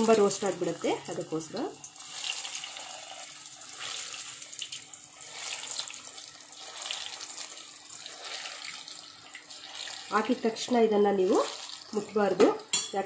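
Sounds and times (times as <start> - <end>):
hot oil sizzling and bubbling: 0.0 - 12.9.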